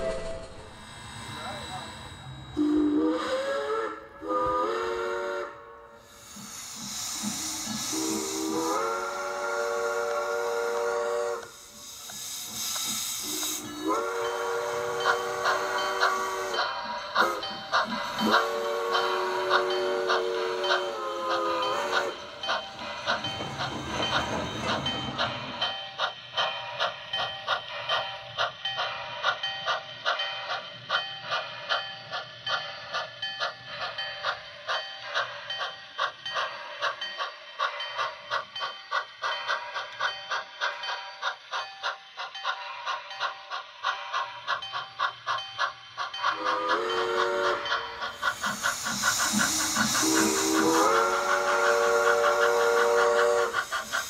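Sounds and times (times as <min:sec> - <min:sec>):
steam hissing: 0:00.0 - 0:54.0
steam locomotive chuffing: 0:00.0 - 0:54.0.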